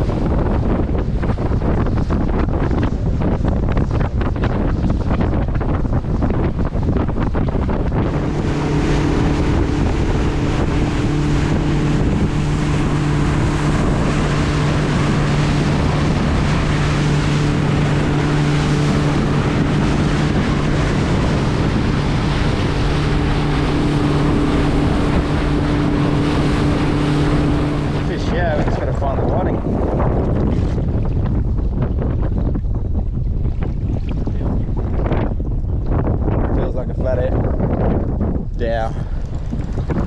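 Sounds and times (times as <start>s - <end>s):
boat motor humming: 0.0s - 40.0s
wind buffeting microphone: 0.0s - 40.0s.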